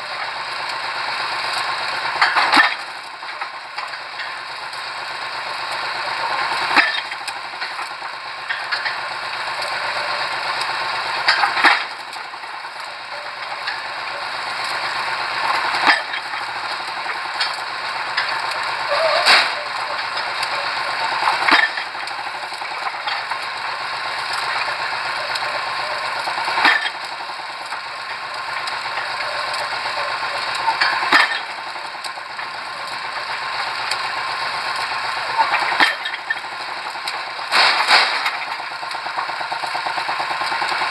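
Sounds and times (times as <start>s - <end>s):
rig engine running: 0.0s - 40.9s.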